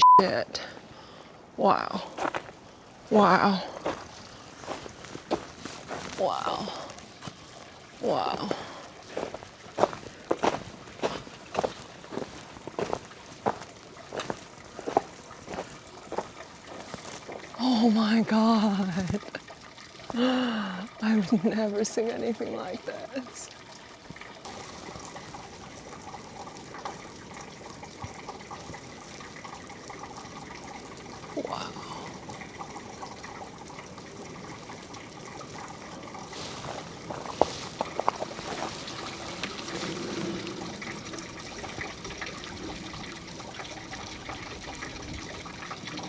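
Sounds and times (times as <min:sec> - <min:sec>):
water trickling: 0:00.2 - 0:46.0.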